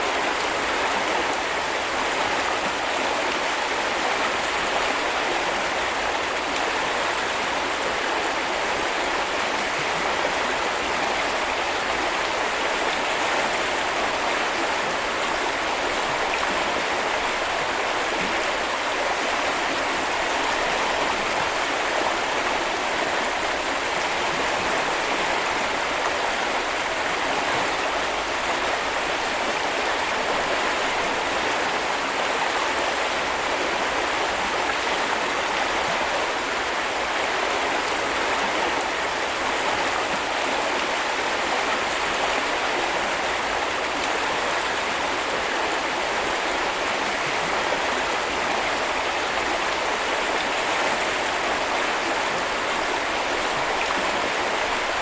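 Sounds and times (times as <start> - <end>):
river running over stones: 0.0 - 55.0.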